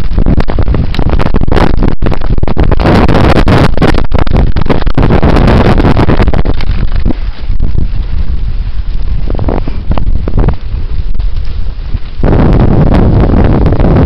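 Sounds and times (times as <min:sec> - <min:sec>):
sled runners on snow: 0:00.0 - 0:14.0
wind buffeting microphone: 0:00.0 - 0:14.0.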